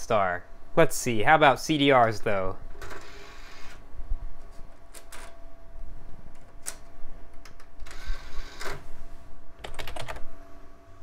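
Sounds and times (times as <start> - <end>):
computer hum: 0.0 - 11.0.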